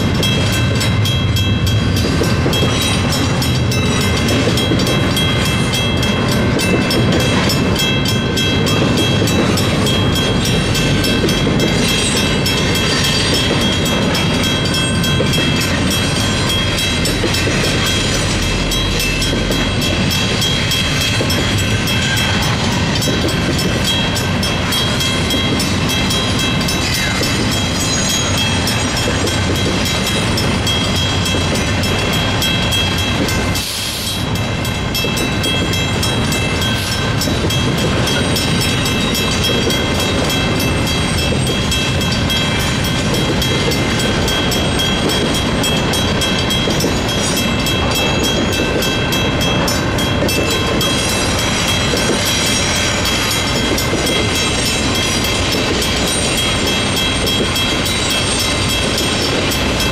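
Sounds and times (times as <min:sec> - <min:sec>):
crossing bell ringing: 0:00.0 - 0:59.9
freight train wheels rumbling: 0:00.0 - 0:59.9.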